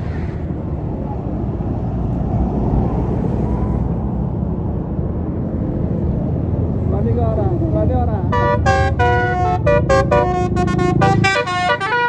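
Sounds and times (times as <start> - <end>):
bus diesel engine passing: 0.0 - 12.0.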